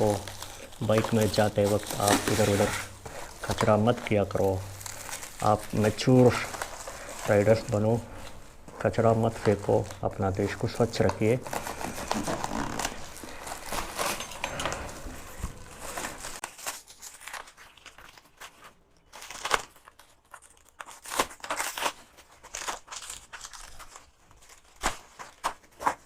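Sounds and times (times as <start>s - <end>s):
foam crackling and snapping: 0.0s - 26.0s
foam packaging rustling: 0.0s - 26.0s.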